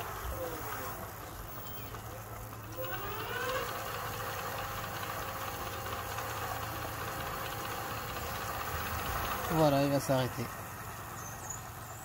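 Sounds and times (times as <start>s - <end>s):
electric hub motor whine: 0.0s - 12.0s.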